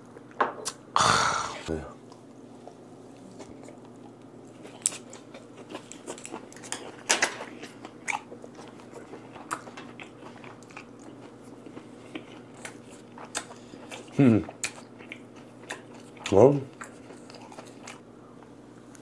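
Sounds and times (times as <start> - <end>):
person chewing crunchily: 2.1 - 18.0.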